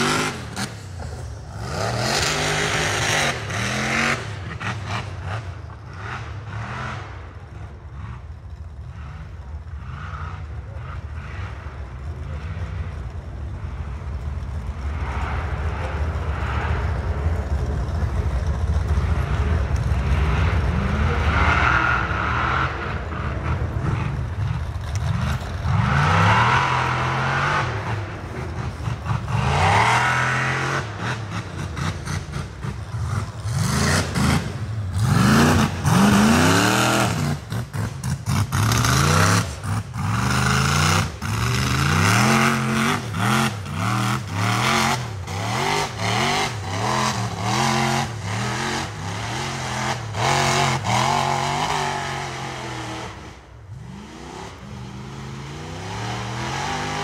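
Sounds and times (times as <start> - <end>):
buggy engines revving hard: 0.0 - 57.0.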